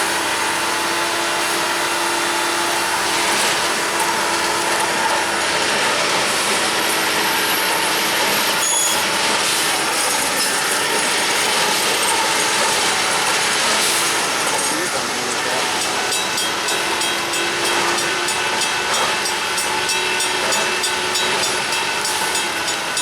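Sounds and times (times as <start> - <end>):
train running on rails: 0.0 - 23.0.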